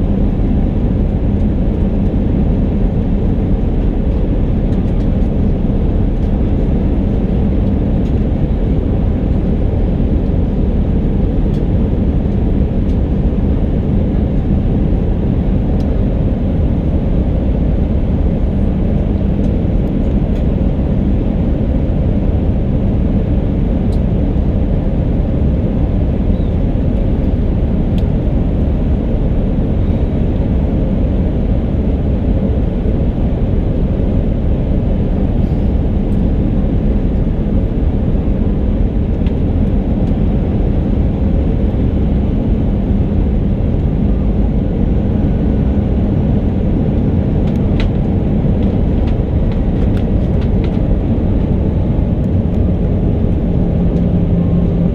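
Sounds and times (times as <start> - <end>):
airliner cabin engine rumble: 0.0 - 54.9.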